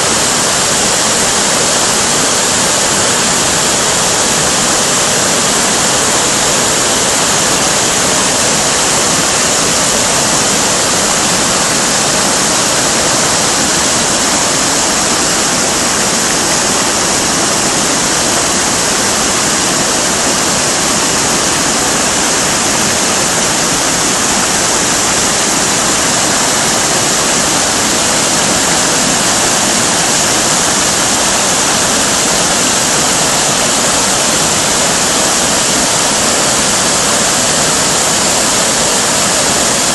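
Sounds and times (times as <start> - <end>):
waterfall rushing over boulders: 0.0 - 39.9.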